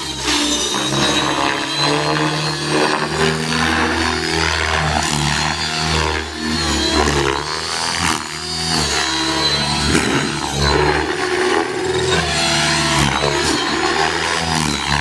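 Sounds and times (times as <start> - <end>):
helicopter rotor buzzing chop: 0.0 - 15.0
high electric motor whine: 0.0 - 15.0.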